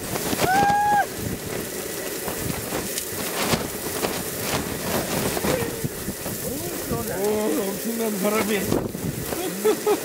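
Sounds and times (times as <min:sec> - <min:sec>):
strong wind gusting: 0:00.0 - 0:09.4
rain-like patter: 0:00.0 - 0:10.0.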